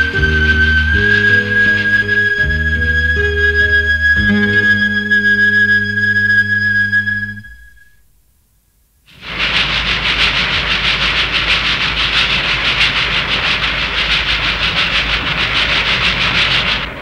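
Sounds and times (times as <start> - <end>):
steam train chuffing: 0.0 - 7.6, 9.1 - 17.0.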